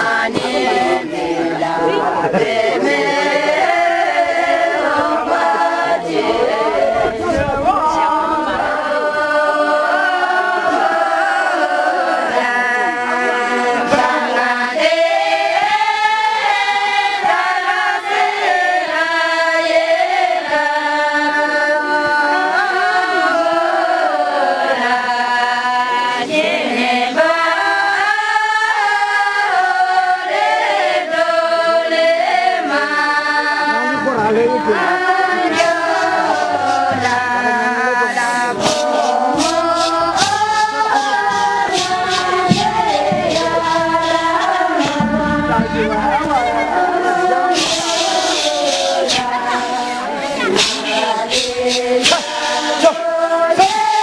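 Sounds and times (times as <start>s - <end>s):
group singing in unison: 0.0s - 54.0s.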